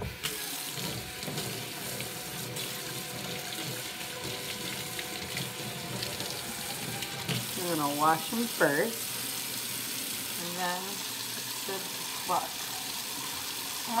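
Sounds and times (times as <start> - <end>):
faucet water running into sink: 0.0 - 14.0.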